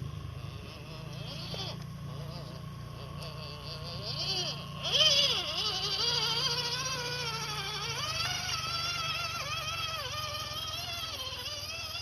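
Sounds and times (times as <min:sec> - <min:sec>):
electric motor and gearbox whining: 0:00.0 - 0:12.0.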